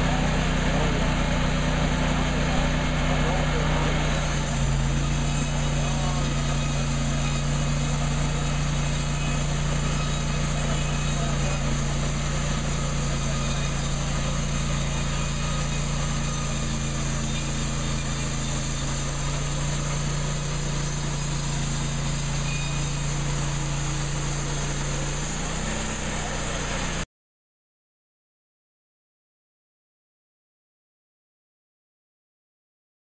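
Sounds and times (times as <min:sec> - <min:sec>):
sawmill engine running under load: 0:00.0 - 0:27.0.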